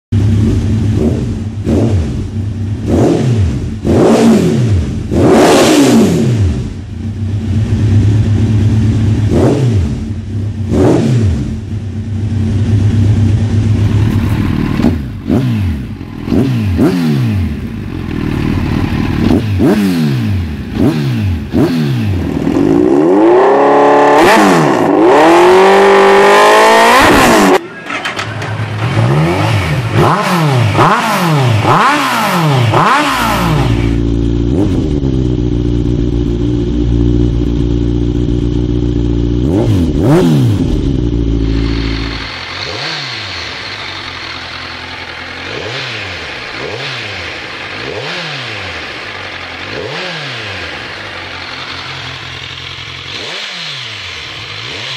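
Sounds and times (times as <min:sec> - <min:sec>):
motorcycle engine revving: 0:00.1 - 0:54.9.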